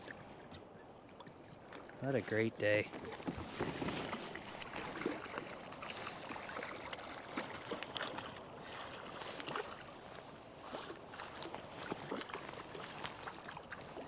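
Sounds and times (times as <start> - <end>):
water lapping against kayak hull: 0.0 - 14.0.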